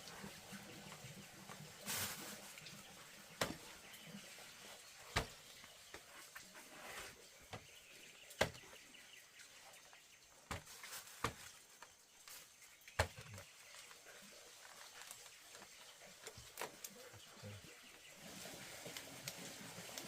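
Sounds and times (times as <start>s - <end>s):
faint outdoor background: 0.0s - 20.0s.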